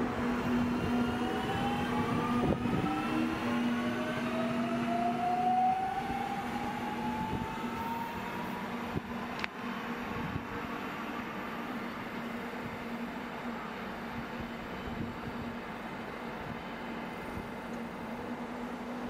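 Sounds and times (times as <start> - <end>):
train traction motors whining: 0.0 - 19.0.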